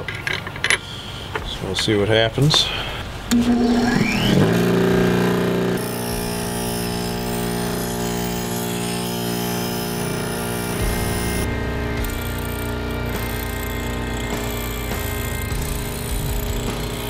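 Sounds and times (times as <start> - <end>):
bench grinder running: 3.3 - 17.0.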